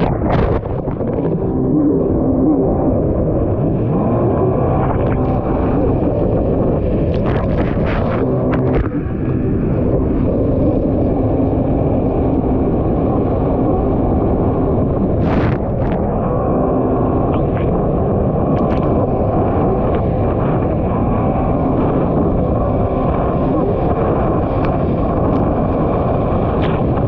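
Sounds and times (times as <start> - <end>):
jet ski engine running hard: 0.0 - 27.0
wind on microphone: 0.0 - 27.0.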